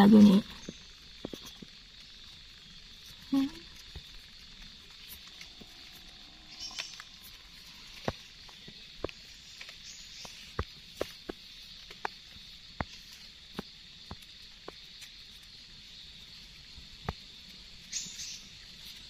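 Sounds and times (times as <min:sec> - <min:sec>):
soft rustling of leaves: 0:00.0 - 0:19.0.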